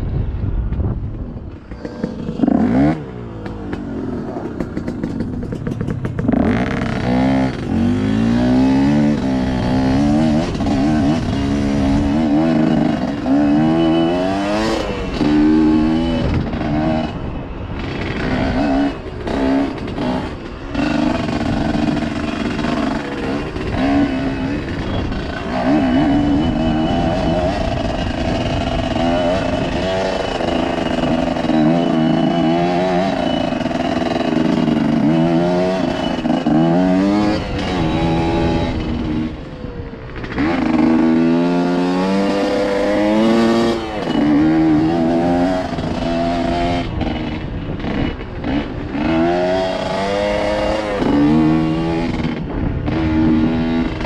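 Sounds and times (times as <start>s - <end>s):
dirt bike engine revving: 1.6s - 54.0s.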